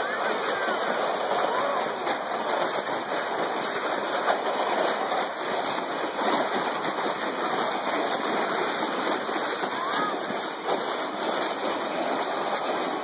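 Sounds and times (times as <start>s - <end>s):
sled scraping over slushy snow: 0.0s - 13.0s.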